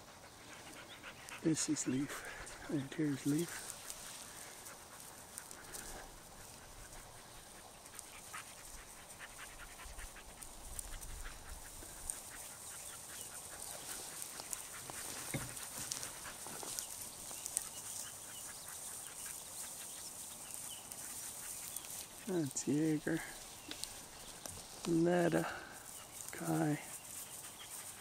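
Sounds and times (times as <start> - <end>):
dogs rustling in dry grass: 0.0 - 28.0.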